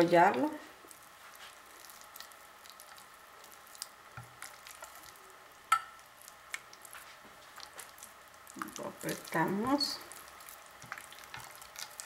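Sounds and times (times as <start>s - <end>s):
wet squishing of meat and sauce: 0.8s - 5.4s, 6.0s - 12.0s.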